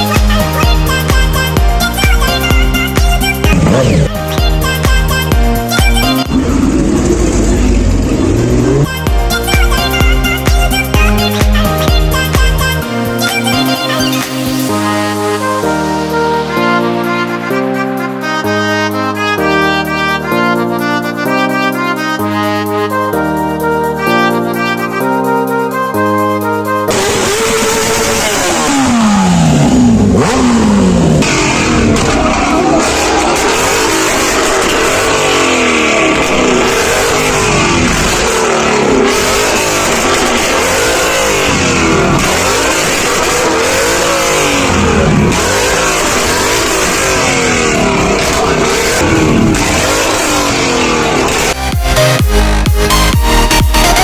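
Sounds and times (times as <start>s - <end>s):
supercar engines revving: 0.0s - 21.2s, 26.8s - 54.0s.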